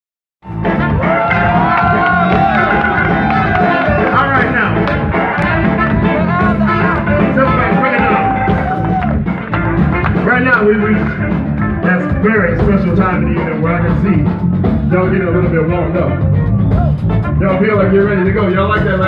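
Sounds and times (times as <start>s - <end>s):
live rock band playing: 0.4s - 19.0s.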